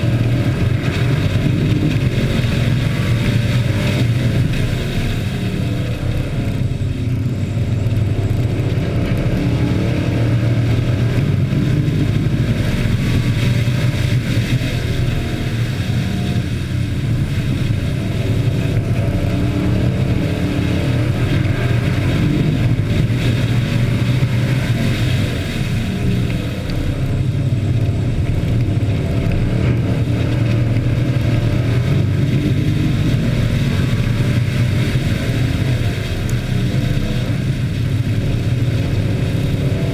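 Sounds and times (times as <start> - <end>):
race truck engines: 0.0 - 39.9.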